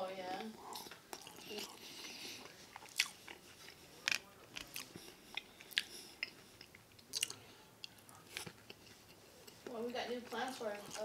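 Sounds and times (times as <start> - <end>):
person chewing food: 0.3 - 9.7.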